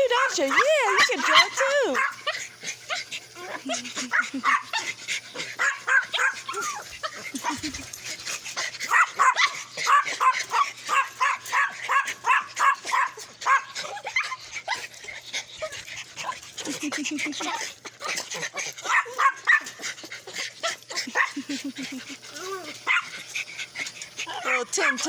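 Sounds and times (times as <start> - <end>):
dogs whining and yipping: 0.0 - 25.0.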